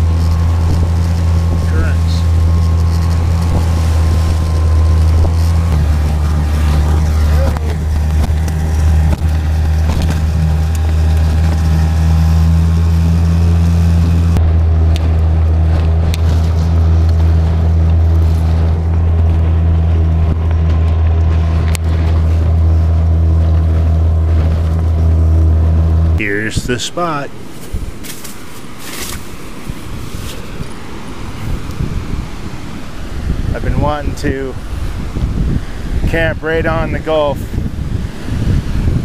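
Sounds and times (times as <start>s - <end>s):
boat through choppy water: 0.0s - 39.0s
outboard motor running: 0.0s - 39.0s.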